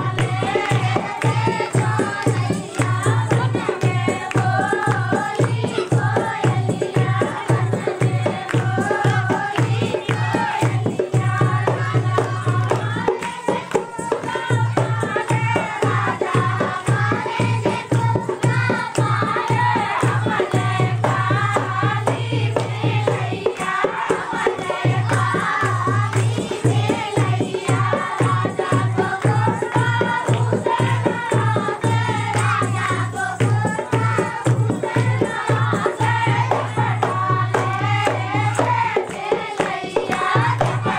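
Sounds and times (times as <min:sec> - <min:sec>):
rattling percussion: 0:00.0 - 0:40.9.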